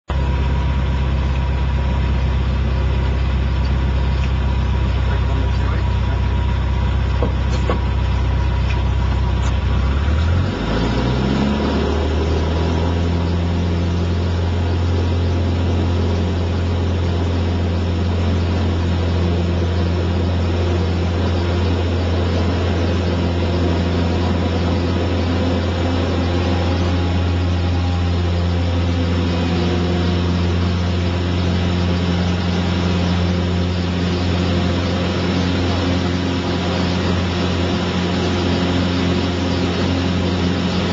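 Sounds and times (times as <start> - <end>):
light aircraft engine and propeller: 0.1 - 40.9.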